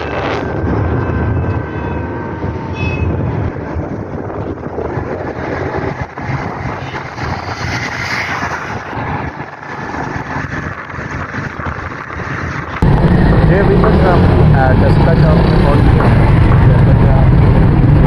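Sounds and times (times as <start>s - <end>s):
vehicle road and wind noise: 0.0s - 18.0s.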